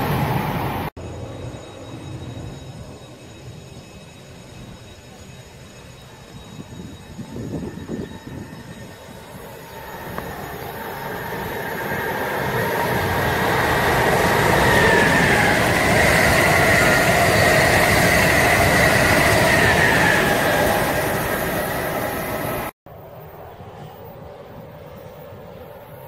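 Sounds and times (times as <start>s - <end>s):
high whine: 0.0s - 25.9s
electric train passing at speed: 0.0s - 26.0s.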